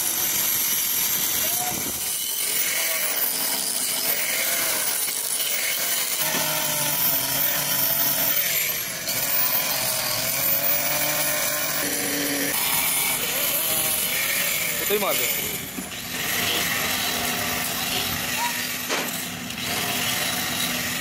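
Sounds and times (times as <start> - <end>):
angle grinder grinding steel: 0.0 - 21.0.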